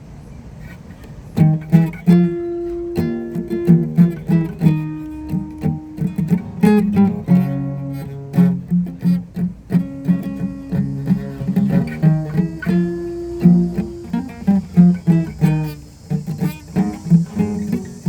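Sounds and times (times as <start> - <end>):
acoustic guitar picking: 0.5 - 18.0.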